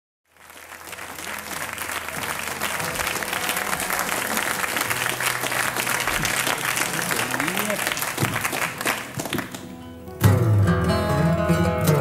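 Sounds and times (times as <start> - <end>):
audience applauding: 0.3 - 10.0.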